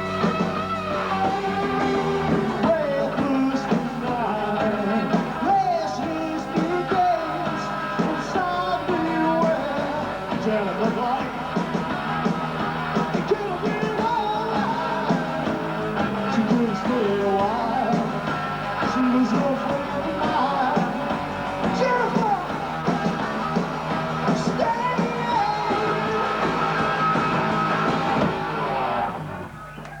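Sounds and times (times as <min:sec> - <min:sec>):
live rock band playing: 0:00.0 - 0:29.8.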